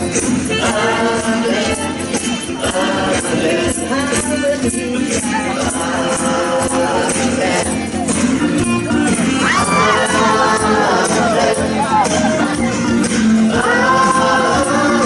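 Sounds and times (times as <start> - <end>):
jingly percussion beat: 0.0 - 15.0
song melody: 0.0 - 15.0.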